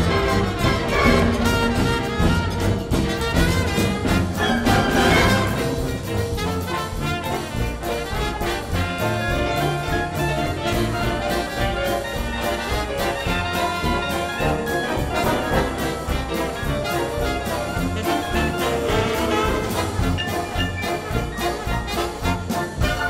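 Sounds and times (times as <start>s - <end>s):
jazz band with wind band: 0.0s - 23.0s
trumpet and trombones: 0.0s - 23.0s
washboard beat: 0.0s - 23.0s.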